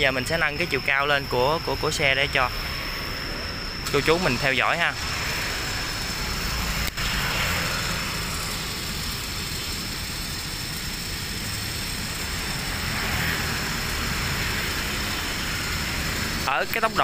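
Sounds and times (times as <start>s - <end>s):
small electric lift motor running: 2.8s - 16.5s.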